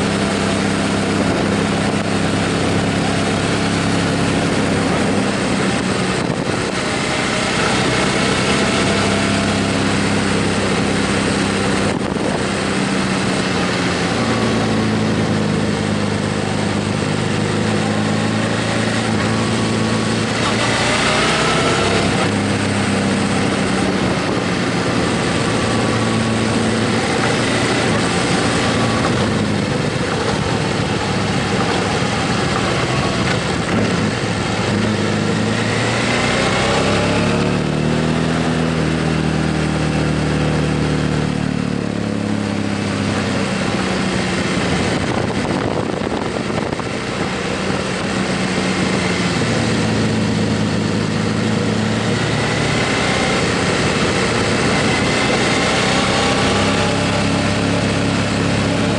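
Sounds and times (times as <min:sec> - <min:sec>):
motorcycle engine: 0:00.0 - 0:58.9
wind and road noise: 0:00.0 - 0:58.9.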